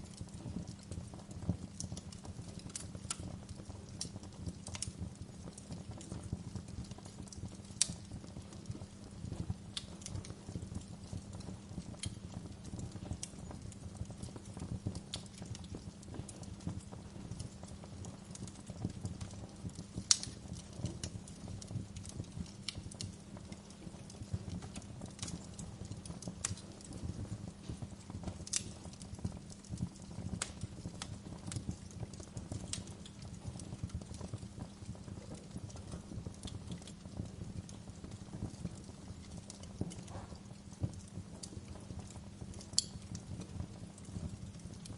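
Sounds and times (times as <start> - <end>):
wood fire crackling: 0.0 - 44.9
sharp fire cracks: 0.1 - 44.9.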